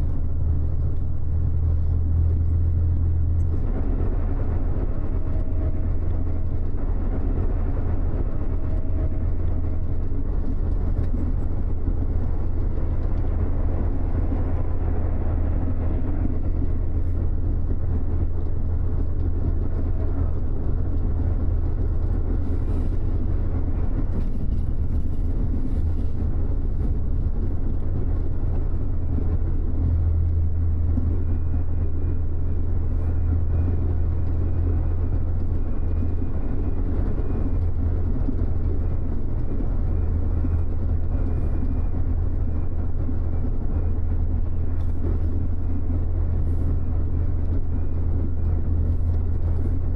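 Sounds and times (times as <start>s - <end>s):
bus engine and road noise: 0.0s - 49.9s.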